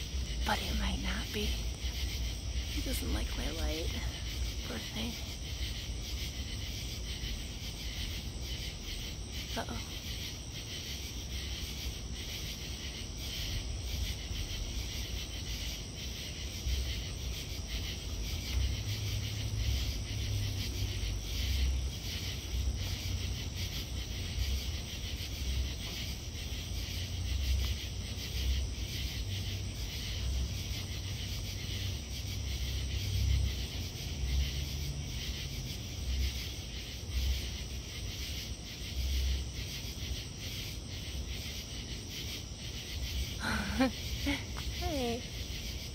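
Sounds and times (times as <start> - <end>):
insects buzzing trill: 0.0 - 45.9.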